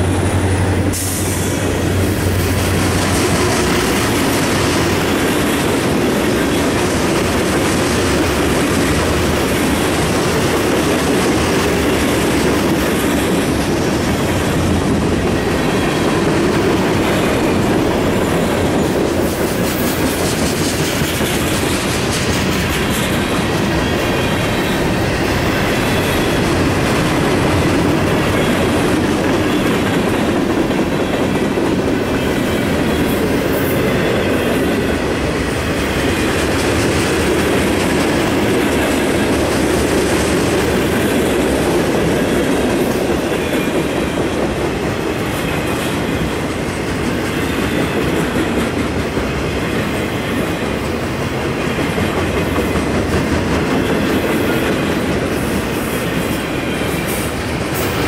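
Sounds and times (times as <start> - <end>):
steel wheels rumbling on rails: 0.0 - 58.0.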